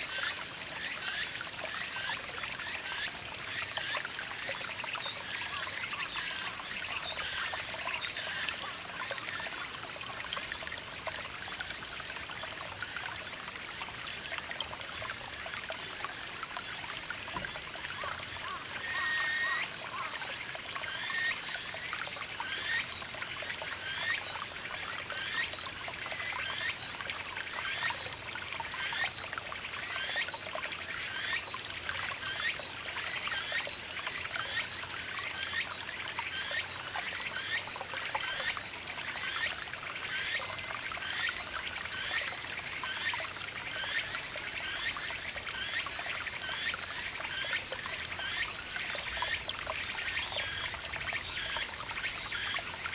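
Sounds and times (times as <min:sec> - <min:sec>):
brook trickling and gurgling: 0:00.0 - 0:52.9.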